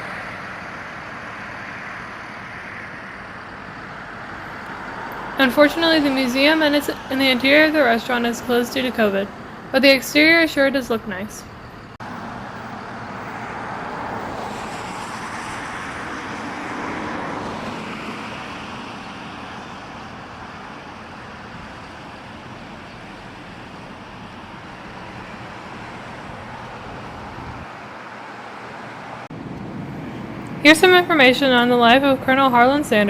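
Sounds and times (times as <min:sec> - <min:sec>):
passing cars and tyres hissing: 0:00.0 - 0:31.6.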